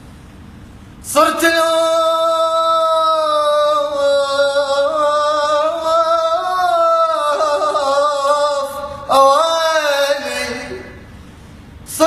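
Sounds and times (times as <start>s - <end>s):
man singing unaccompanied: 1.1s - 11.0s.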